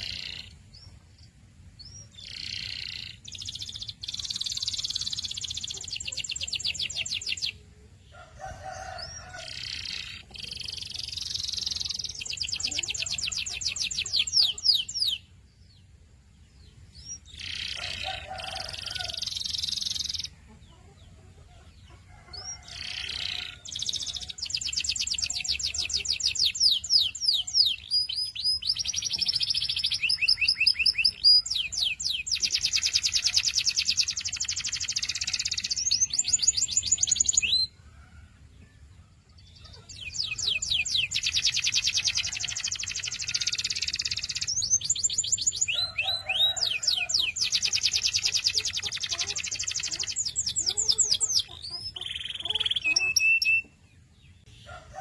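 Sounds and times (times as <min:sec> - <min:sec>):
canary singing trills: 0:00.0 - 0:37.9, 0:39.3 - 0:54.8.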